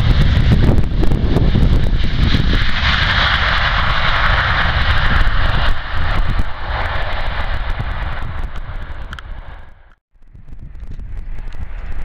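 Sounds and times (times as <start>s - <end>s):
jet engines roaring: 0.0s - 10.0s
wind buffeting microphone: 0.0s - 12.0s.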